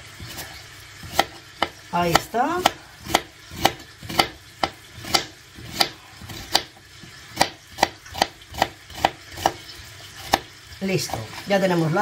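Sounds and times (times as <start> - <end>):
knife chopping on cutting board: 0.2 - 11.4.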